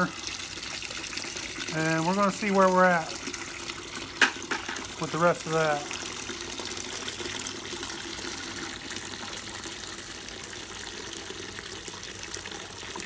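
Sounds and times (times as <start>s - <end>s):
liquid gushing into a bucket: 0.0s - 13.0s.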